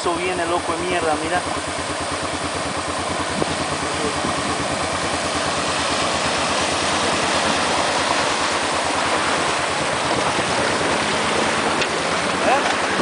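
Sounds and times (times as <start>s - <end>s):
truck engine under load: 0.0s - 13.0s
water rushing and splashing: 0.0s - 13.0s.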